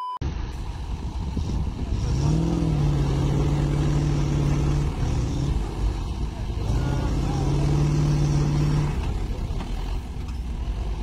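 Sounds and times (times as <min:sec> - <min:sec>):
continuous low rumble: 0:00.2 - 0:11.0
diesel engines under load: 0:00.2 - 0:11.0
engine revving: 0:00.6 - 0:11.0.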